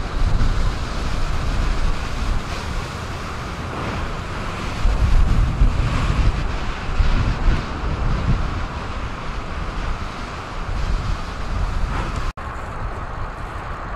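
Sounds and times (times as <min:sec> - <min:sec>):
wind buffeting microphone: 0:00.0 - 0:13.9
lake waves breaking: 0:00.1 - 0:12.4.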